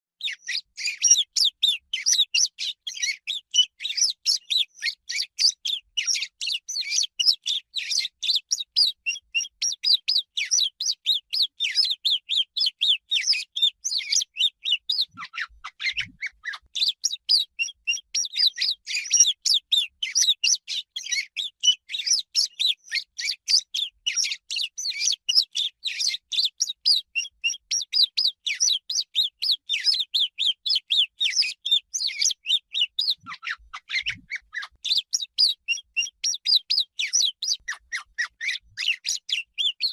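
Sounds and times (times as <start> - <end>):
swallows twittering: 0.2 - 39.9.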